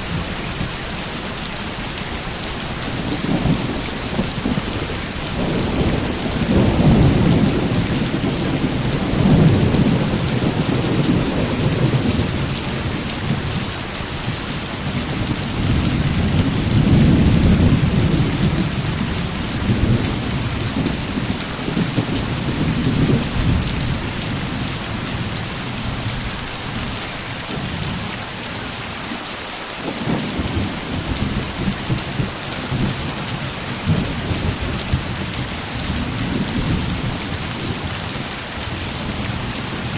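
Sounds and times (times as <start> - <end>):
heavy rain falling: 0.0 - 39.9
low rolling thunder: 2.9 - 26.2, 29.8 - 39.9.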